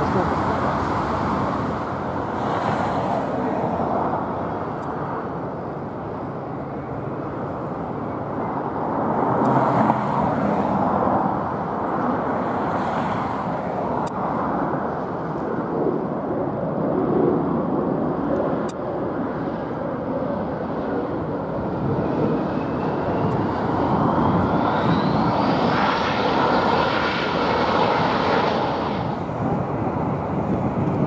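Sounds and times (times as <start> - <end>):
jet engines rushing: 0.0 - 31.0.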